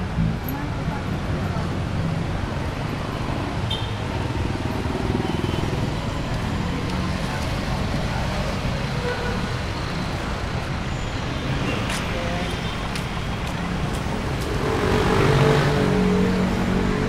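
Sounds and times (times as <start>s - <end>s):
passing cars and motorcycles: 0.0s - 17.0s.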